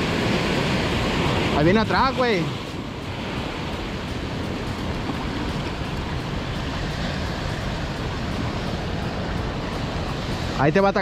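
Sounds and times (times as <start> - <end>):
ocean surf breaking: 0.0 - 11.0
wind: 0.0 - 11.0.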